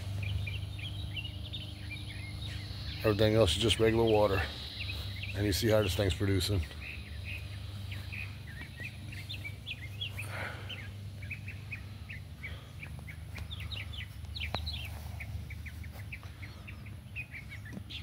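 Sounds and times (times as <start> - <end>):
low steady rumble: 0.0 - 18.0
small birds chirping: 0.0 - 18.0.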